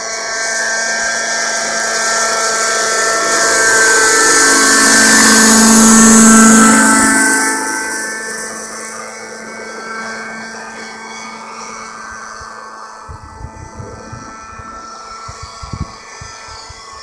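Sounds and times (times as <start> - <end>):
model helicopter engine whine: 0.0 - 17.0.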